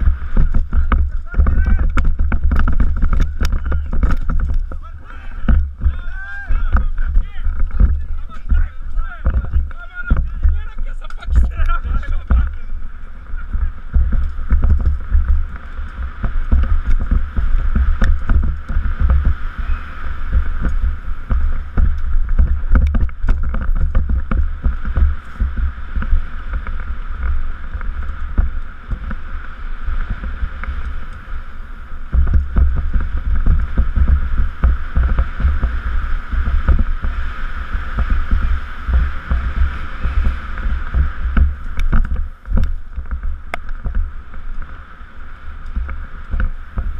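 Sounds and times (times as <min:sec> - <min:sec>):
mountain bike clattering on dirt trail: 0:00.0 - 0:46.9
wind rumbling on microphone: 0:00.0 - 0:46.9.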